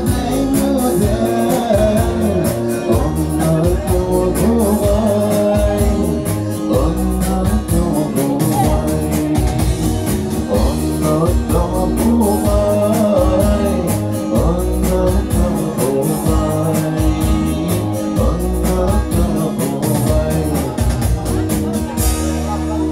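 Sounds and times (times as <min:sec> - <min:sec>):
backing track with beat: 0:00.0 - 0:22.9
man singing: 0:00.0 - 0:22.9.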